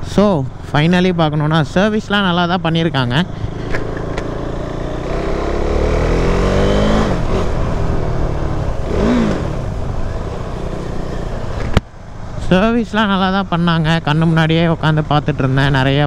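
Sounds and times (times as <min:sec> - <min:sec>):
motor traffic: 0:00.0 - 0:16.0.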